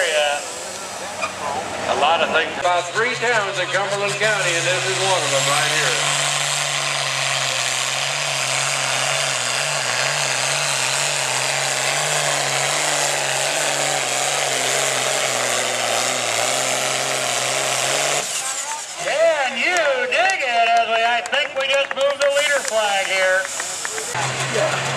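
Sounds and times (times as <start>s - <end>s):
diesel tractor engine at full power: 0.0s - 24.9s.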